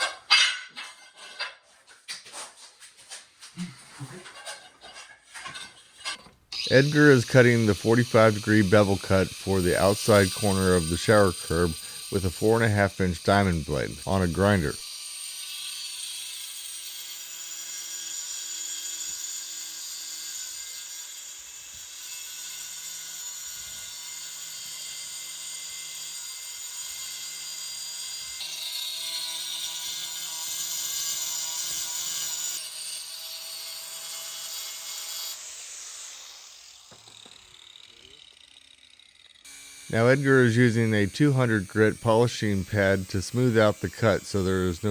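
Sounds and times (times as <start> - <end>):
angle grinder cutting tile: 0.0 - 44.9.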